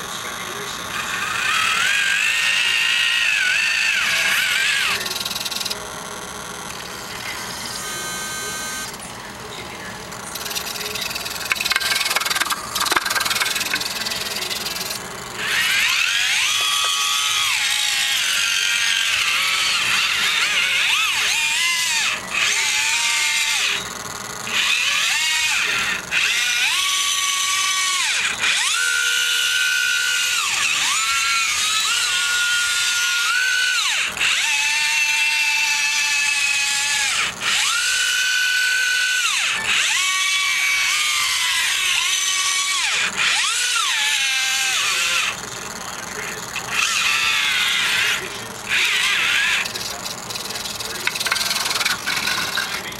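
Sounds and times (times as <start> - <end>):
electric drive motor whine: 0.0 - 52.9.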